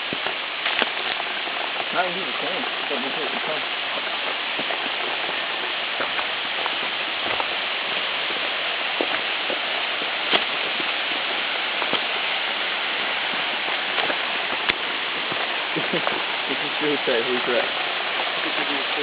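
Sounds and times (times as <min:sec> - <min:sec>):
water rushing from small waterfall: 0:00.0 - 0:19.0.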